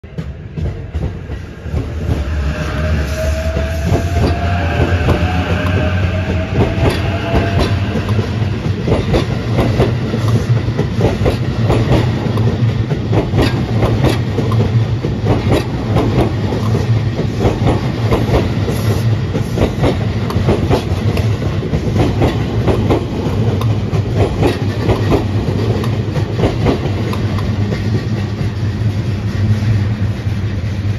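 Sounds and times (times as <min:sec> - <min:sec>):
train rumble: 0:00.0 - 0:30.9
wheels clacking over rail joints: 0:03.4 - 0:28.7.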